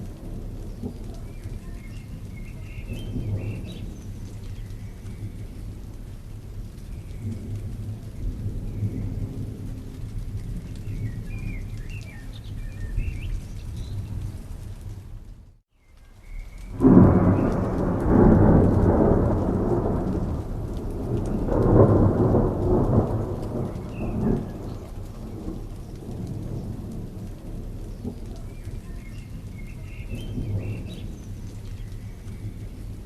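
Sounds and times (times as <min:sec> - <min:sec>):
thunder rumble: 0:00.0 - 0:15.6, 0:16.4 - 0:33.0
steady rain: 0:00.0 - 0:33.0.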